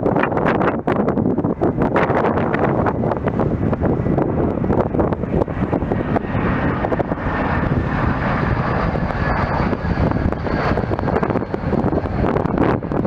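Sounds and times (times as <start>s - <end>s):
jet airliner passing: 0.0s - 13.0s
wind on microphone: 0.0s - 13.0s.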